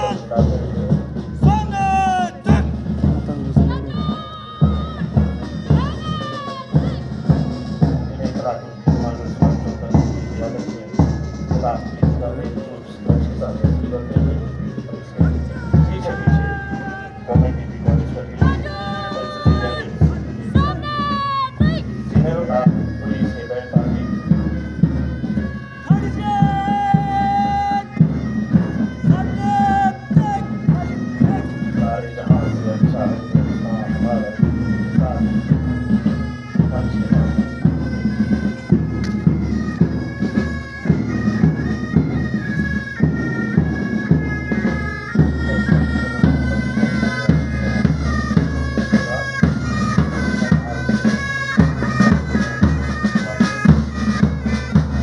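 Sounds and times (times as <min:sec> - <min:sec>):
bagpipes playing a march: 0:00.0 - 0:55.0
marching drums beating: 0:00.0 - 0:55.0.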